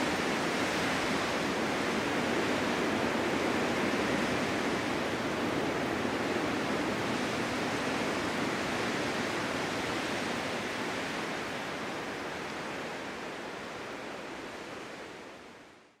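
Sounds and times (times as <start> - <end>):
snowstorm wind blowing: 0.0 - 15.6.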